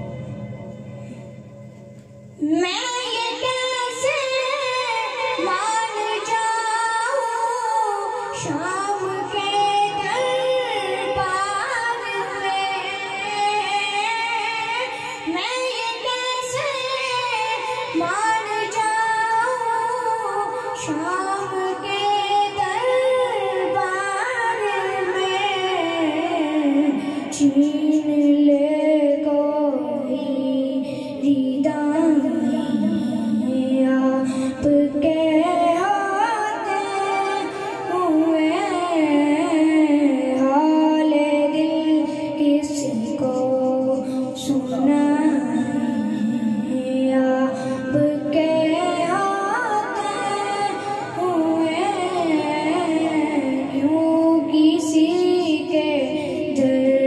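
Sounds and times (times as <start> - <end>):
boy singing devotional song: 0.0 - 57.0.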